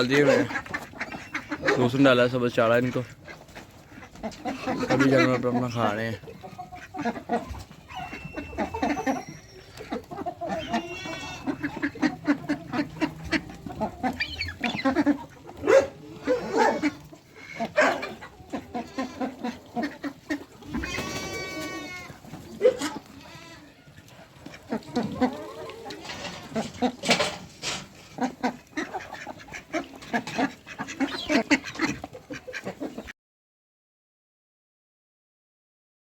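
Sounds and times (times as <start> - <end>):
farm animals and poultry calling: 0.0 - 33.1.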